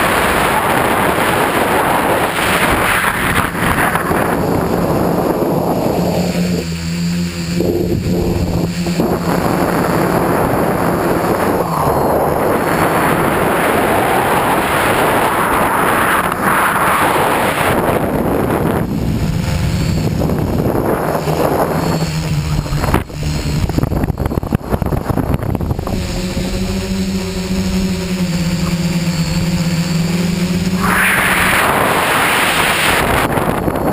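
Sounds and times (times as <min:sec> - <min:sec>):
motor and propeller hum: 0:00.0 - 0:33.9
wind rushing over microphone: 0:00.0 - 0:33.9.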